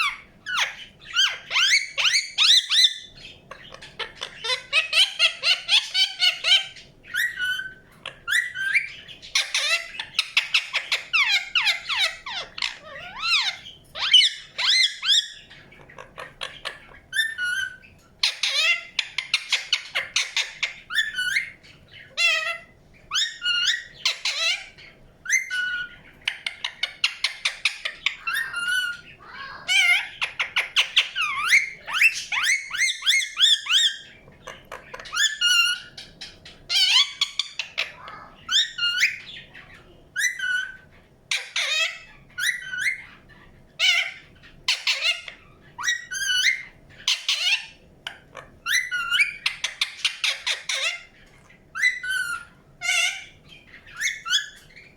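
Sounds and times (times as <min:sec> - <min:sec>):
parakeet chirping and chattering: 0:00.0 - 0:54.9.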